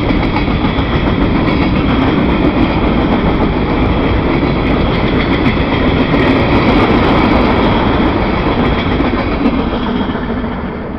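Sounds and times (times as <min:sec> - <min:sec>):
freight train wheels on rails: 0:00.0 - 0:10.9.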